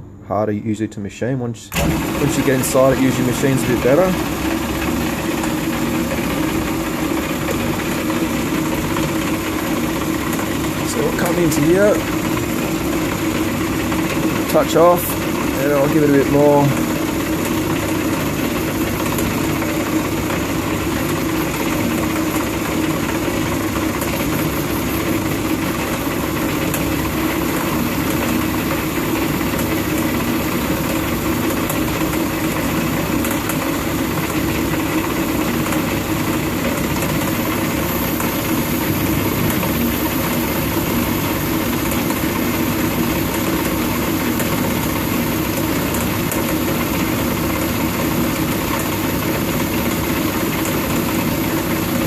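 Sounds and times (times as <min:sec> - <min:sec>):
metal lathe rumbling: 0:01.8 - 0:52.0.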